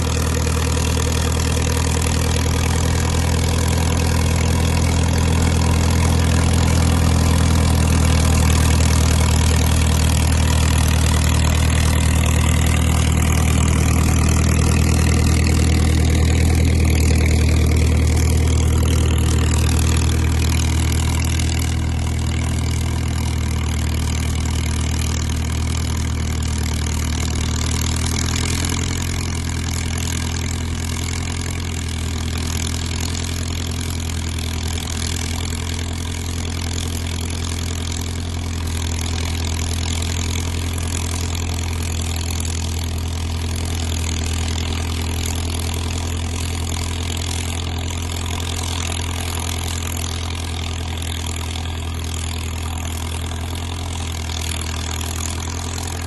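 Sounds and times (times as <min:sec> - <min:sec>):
crawler dozer engine running: 0:00.0 - 0:56.0.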